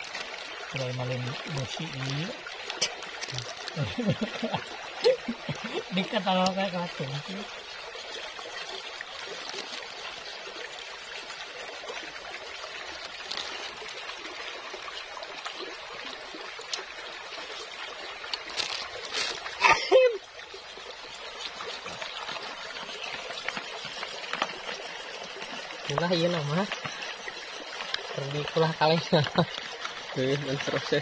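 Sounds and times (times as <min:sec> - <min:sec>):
stream trickling over rocks: 0:00.0 - 0:31.0.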